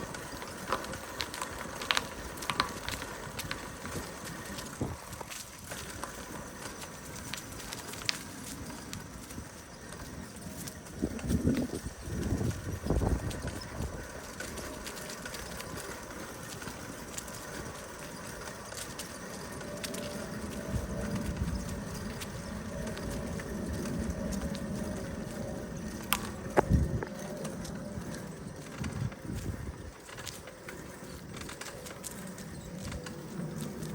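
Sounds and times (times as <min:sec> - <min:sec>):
bicycle tyre and wind rumble: 0:00.0 - 0:33.9.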